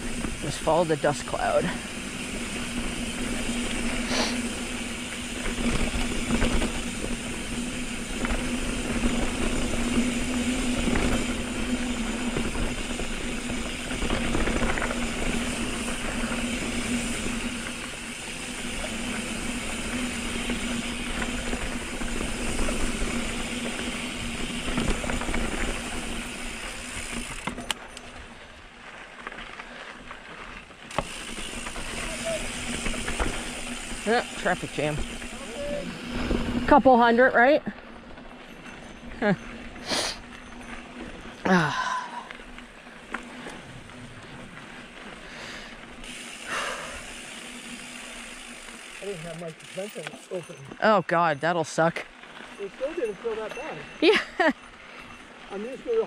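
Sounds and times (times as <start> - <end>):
bike rattling: 0.0 - 56.0.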